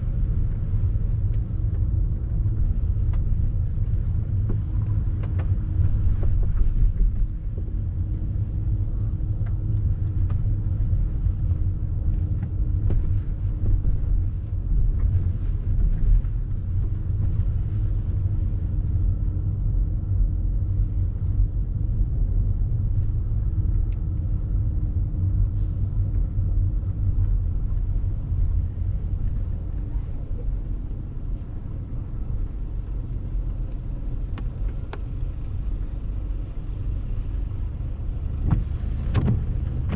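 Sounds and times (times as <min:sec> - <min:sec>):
engine hum: 0:00.0 - 0:39.9
road traffic rumble: 0:00.0 - 0:39.9.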